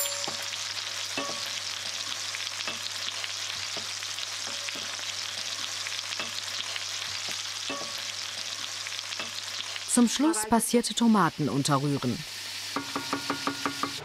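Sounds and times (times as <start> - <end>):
meat sizzling in hot fat: 0.0 - 14.0.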